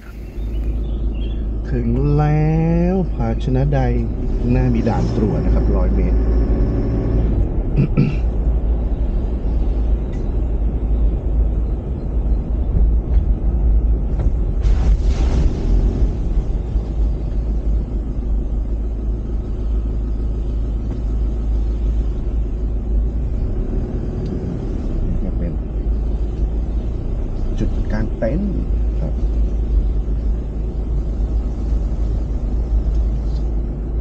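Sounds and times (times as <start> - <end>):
road and wind noise: 0.0 - 34.0
vehicle rumble: 0.0 - 34.0.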